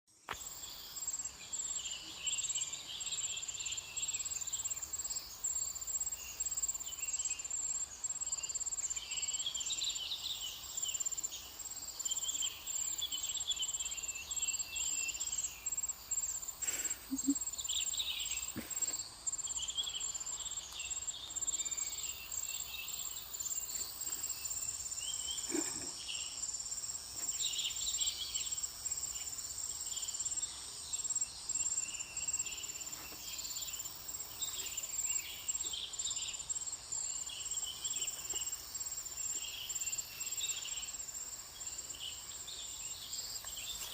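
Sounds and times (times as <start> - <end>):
insects trilling: 0.2 - 43.9.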